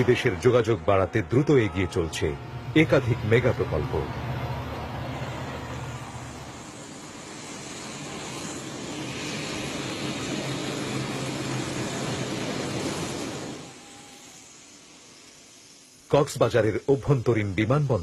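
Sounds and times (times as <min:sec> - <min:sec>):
vehicle rumble and rushing hiss: 0:00.0 - 0:18.0.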